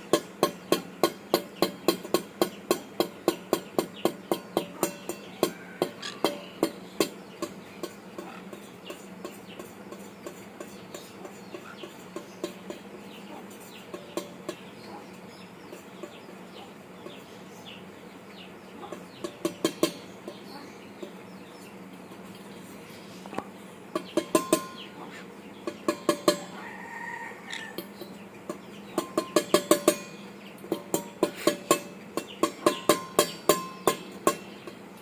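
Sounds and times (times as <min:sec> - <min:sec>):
faint bird calls: 0:00.0 - 0:34.8.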